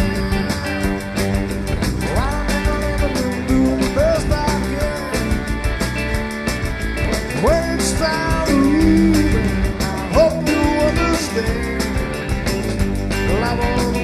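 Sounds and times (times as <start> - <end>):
bass guitar: 0.0 - 14.0
drums with cymbal ticks: 0.0 - 14.0
electric guitar bending notes: 0.0 - 14.0.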